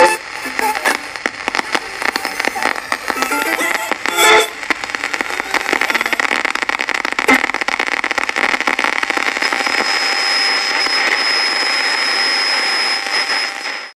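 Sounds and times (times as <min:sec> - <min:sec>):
loud crackling rushing noise: 0:00.0 - 0:14.0.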